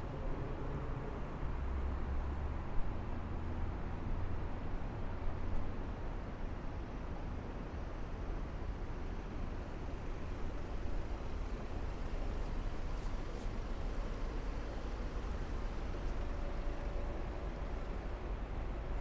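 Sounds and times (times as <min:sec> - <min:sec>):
city road traffic rumble: 0:00.0 - 0:19.0.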